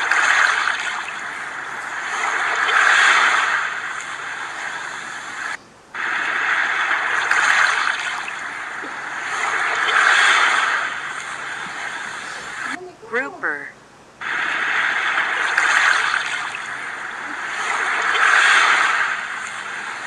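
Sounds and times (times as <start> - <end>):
sea waves rushing: 0.0 - 12.8, 14.2 - 20.0.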